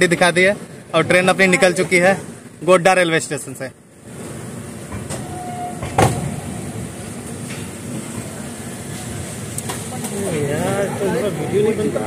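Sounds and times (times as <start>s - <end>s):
train running gear rumbling: 0.0s - 12.0s.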